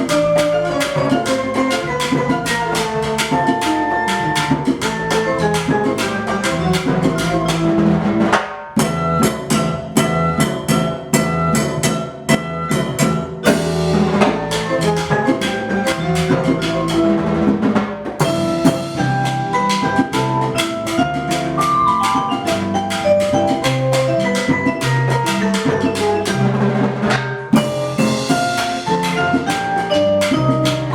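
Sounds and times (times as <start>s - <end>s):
percussion ensemble playing: 0.0s - 30.9s.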